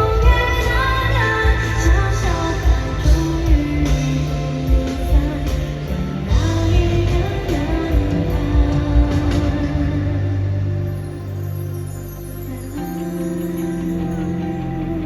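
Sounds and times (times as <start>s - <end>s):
live pop band playing: 0.0s - 15.0s.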